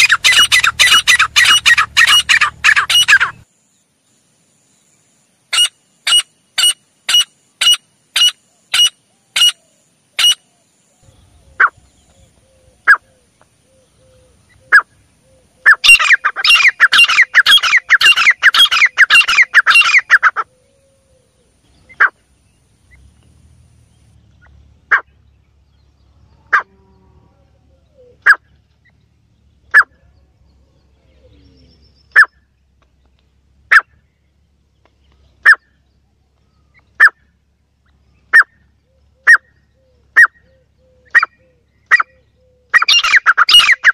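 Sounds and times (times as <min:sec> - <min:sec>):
francolin calling: 0:00.0 - 0:03.9, 0:04.7 - 0:43.9.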